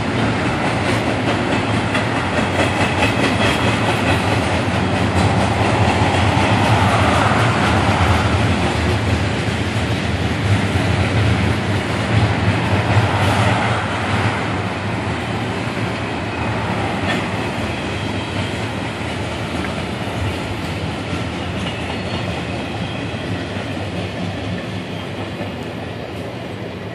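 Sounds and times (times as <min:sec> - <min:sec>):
freight train wheels on rails: 0:00.0 - 0:26.9.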